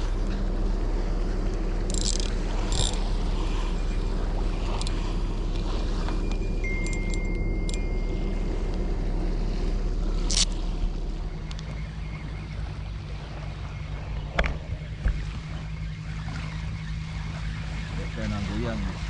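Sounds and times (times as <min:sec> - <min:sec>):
low steady hum: 0:00.0 - 0:19.0
wind and surf rumble: 0:00.0 - 0:19.0.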